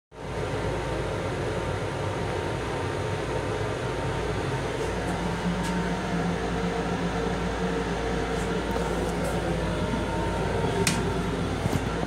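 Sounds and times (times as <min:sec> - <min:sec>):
train hum and rumble: 0:00.2 - 0:12.0.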